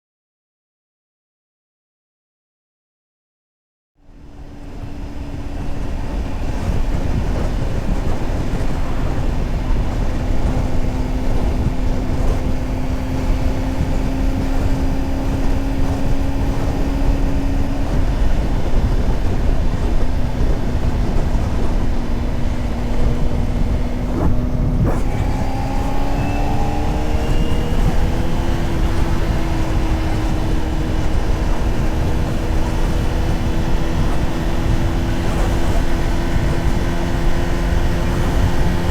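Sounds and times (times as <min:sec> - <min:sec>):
wind rush over microphone: 0:04.1 - 0:38.9
motorcycle engine running: 0:04.3 - 0:38.9.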